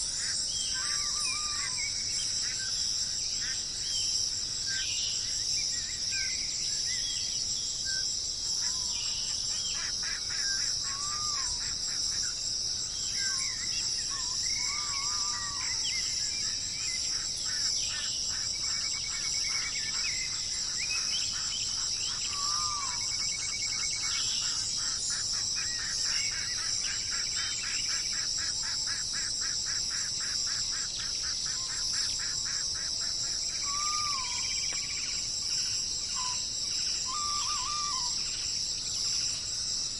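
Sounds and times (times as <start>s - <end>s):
birds calling and singing: 0.0s - 39.9s
high-pitched insect chorus: 0.0s - 39.9s.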